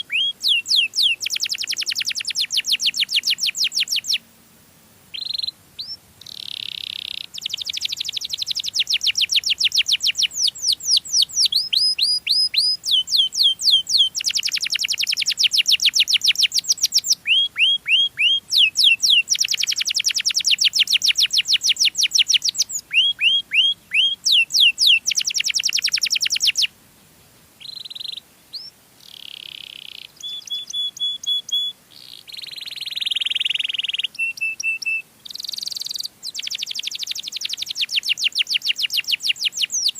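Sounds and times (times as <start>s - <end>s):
canary singing: 0.0s - 4.2s, 5.1s - 26.7s, 27.6s - 39.9s.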